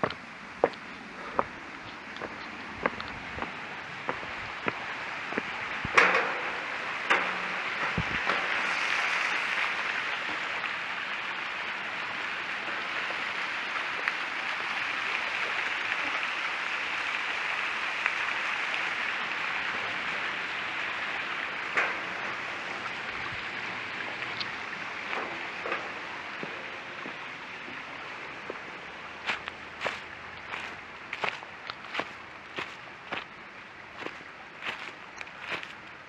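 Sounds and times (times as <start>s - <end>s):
stream running over rocks: 0.0s - 36.0s.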